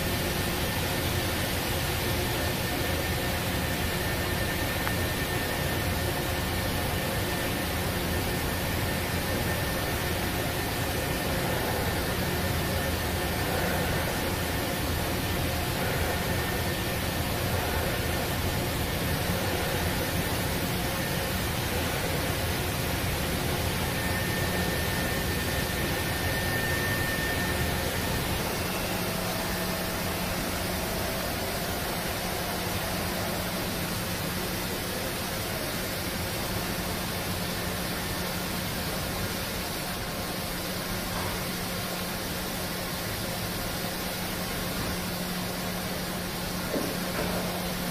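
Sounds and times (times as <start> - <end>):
machine hiss over low hum: 0.0 - 47.9.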